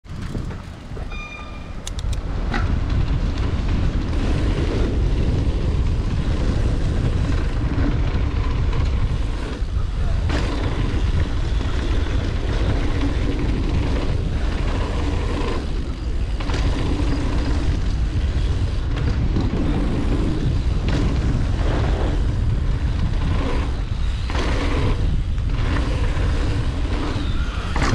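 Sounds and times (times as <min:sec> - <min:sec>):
bike knocking and rattling: 0:00.0 - 0:27.9
bike tyres rolling on dirt: 0:00.0 - 0:27.9
wind rushing over microphone: 0:00.0 - 0:27.9.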